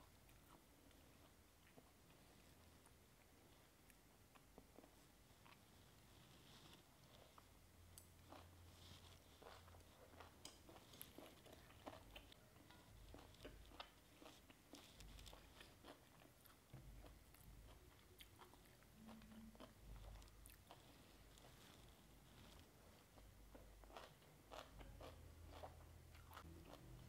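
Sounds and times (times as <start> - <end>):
chewing crunchy food: 3.8 - 27.0.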